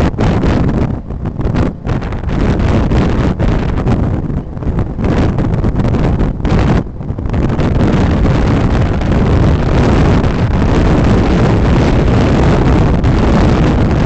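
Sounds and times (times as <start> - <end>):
vehicle road noise: 0.0 - 14.0
wind over microphone: 0.0 - 14.0.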